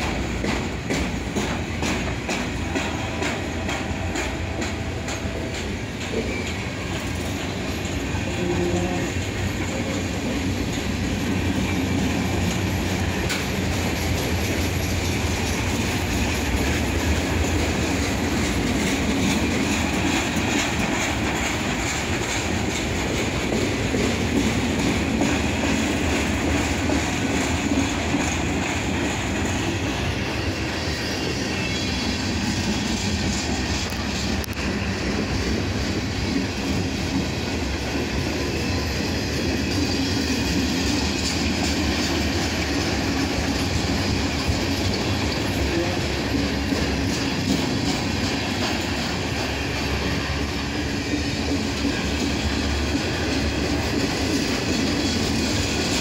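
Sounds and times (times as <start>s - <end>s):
freight train wheels clattering on rails: 0.0s - 56.0s.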